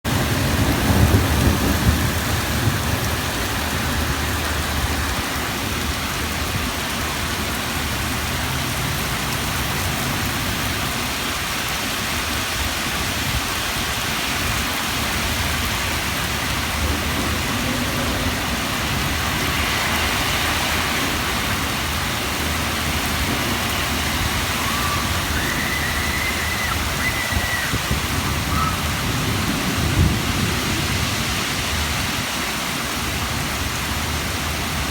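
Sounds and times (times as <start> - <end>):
heavy rain pouring: 0.0 - 34.9
low rumble of thunder: 0.1 - 11.2, 14.3 - 34.9.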